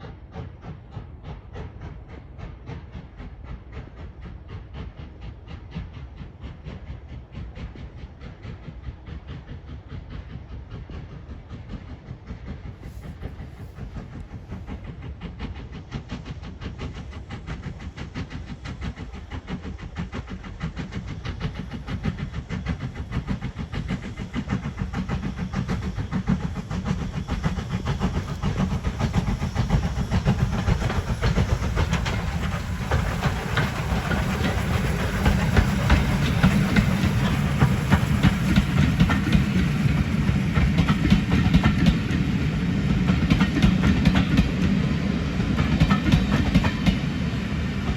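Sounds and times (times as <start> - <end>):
steam locomotive chuffing: 0.0 - 47.9.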